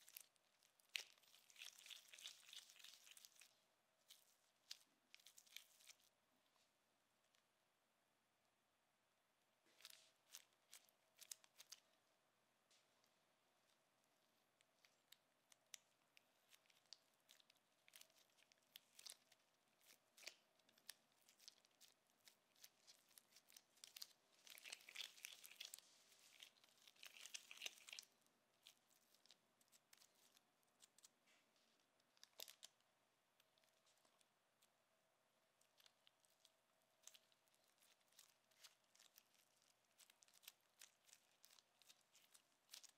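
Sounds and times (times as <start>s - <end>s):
gloves squishing cookie dough: 0.0s - 7.8s, 9.4s - 42.9s.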